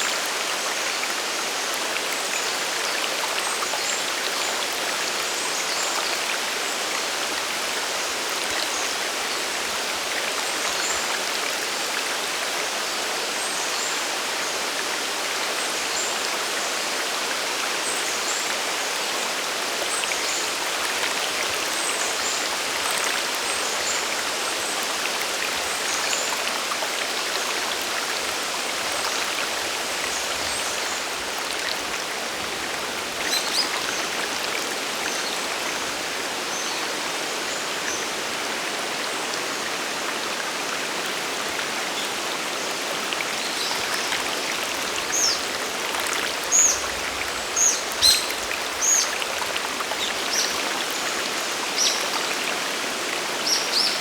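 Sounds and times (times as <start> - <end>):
rushing falling water: 0.0 - 54.0.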